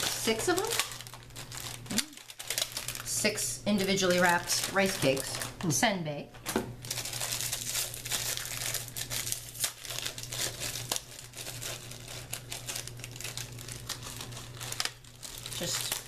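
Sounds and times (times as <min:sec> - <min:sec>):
plastic wrapper crinkling: 0:00.0 - 0:05.8, 0:06.4 - 0:16.0.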